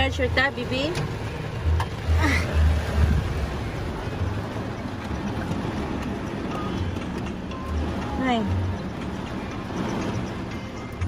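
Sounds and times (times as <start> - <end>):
heavy rain on a vehicle roof: 0.0 - 11.0.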